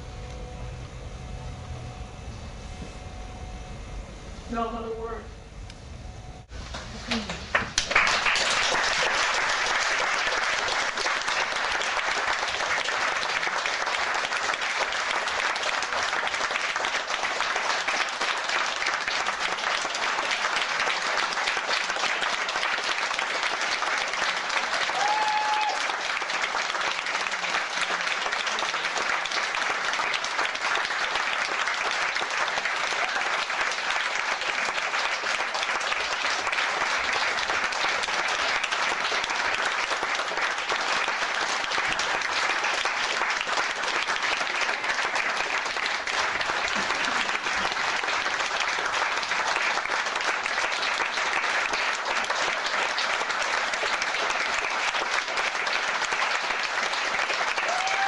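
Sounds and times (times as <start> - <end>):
audience applauding: 6.7 - 58.0.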